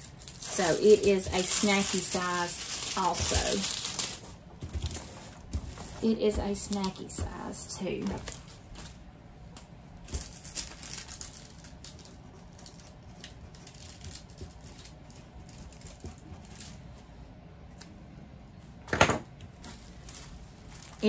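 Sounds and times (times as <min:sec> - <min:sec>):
plastic bags rustling and clicking: 0:00.0 - 0:16.8, 0:19.5 - 0:21.0.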